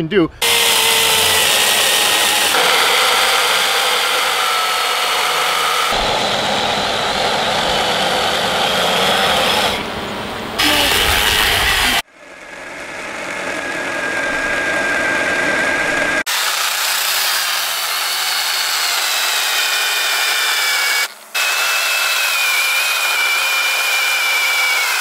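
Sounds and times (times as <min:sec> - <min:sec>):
electric motor whine: 0:00.4 - 0:25.0.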